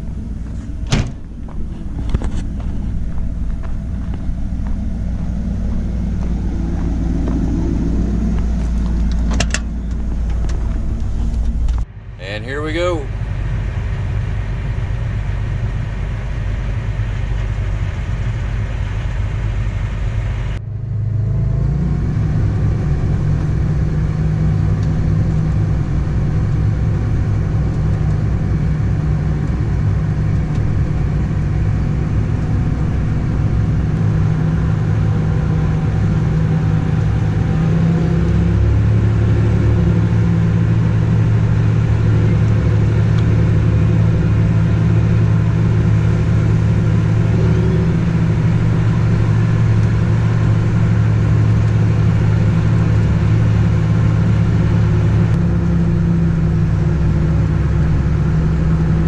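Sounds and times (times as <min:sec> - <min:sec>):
diesel engine droning under load: 0:00.0 - 0:59.0.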